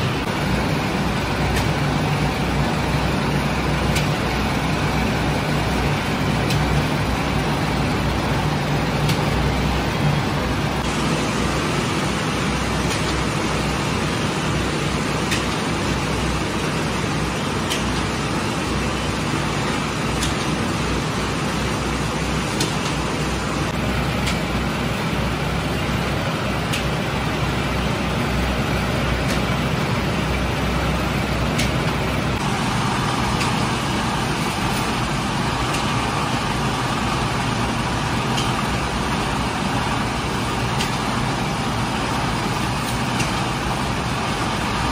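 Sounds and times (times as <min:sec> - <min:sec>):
bakery machinery rumble: 0:00.0 - 0:44.9.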